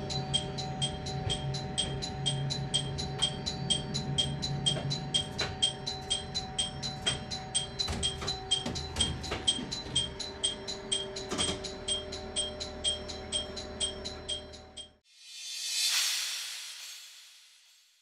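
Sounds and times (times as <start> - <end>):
low train hum: 0.0 - 14.8
crossing warning bell ringing: 0.0 - 15.0.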